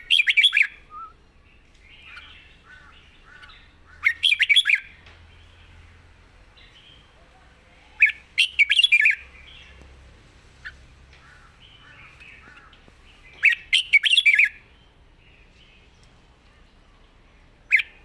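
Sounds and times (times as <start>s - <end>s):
bird warbling song: 0.0s - 7.3s, 7.9s - 10.0s, 10.6s - 18.0s
soft faint bird calls: 0.0s - 18.0s.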